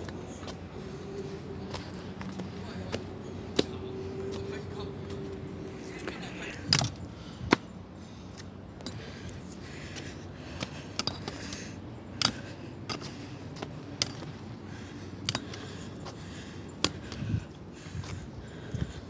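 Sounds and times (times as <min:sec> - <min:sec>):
footsteps on stone steps: 0:00.0 - 0:19.0.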